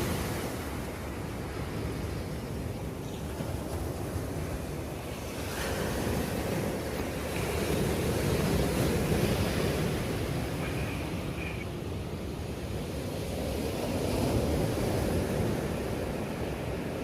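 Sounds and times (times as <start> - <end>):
sea surf washing onto beach: 0.0 - 17.0.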